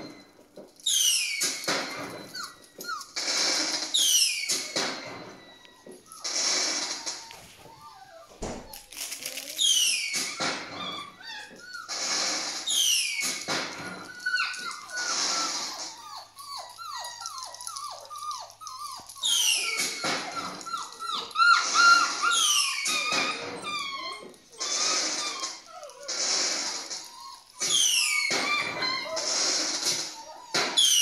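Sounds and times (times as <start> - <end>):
puppies whining and squealing: 0.0 - 31.0
puppy squeaks: 0.0 - 31.0.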